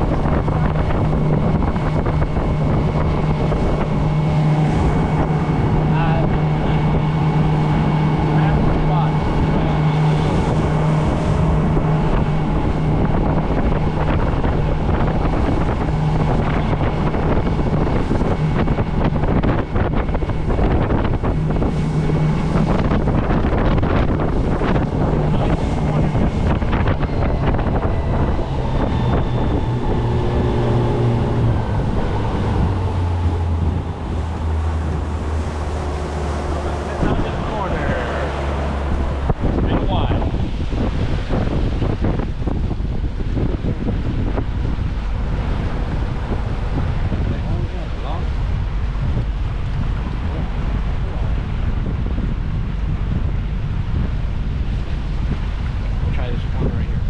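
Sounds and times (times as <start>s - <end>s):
boat motor running: 0.0s - 57.0s
hull knocking on waves: 0.0s - 57.0s
wind buffeting microphone: 0.0s - 57.0s.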